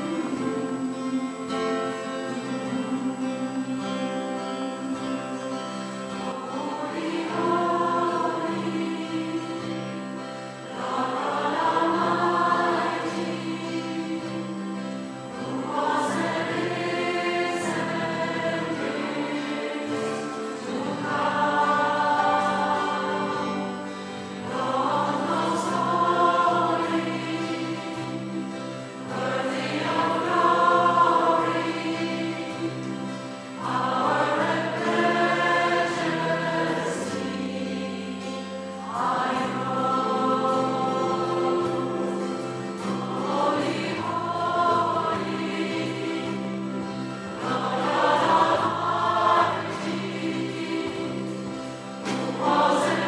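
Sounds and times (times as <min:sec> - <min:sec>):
choir singing long notes: 0:00.0 - 0:53.0
instrumental accompaniment: 0:00.0 - 0:53.0.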